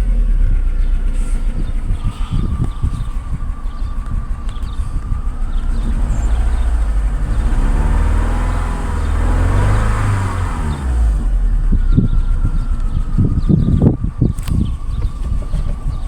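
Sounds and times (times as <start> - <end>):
petrol engine revving: 0.0 - 16.0.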